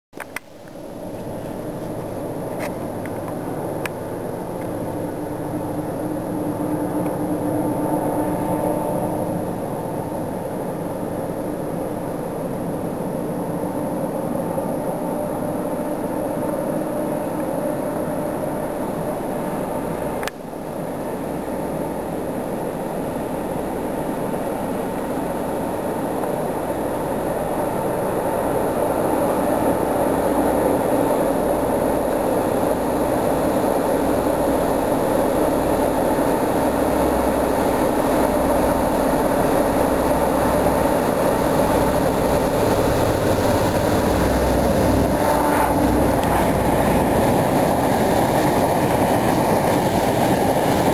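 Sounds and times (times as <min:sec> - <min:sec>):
diesel locomotive engine droning: 0:00.2 - 0:50.9.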